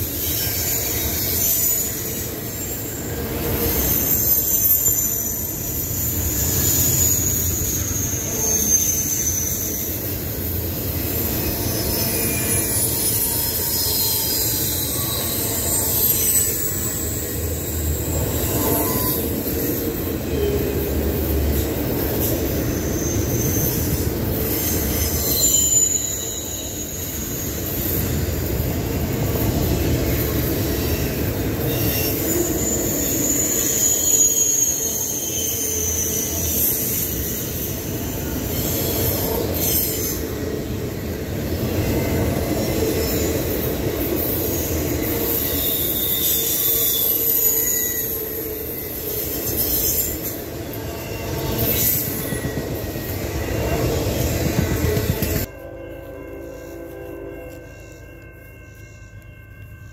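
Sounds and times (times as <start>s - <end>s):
high wheel squeals: 0.0s - 55.5s
train wheels rumbling on rails: 0.0s - 59.9s.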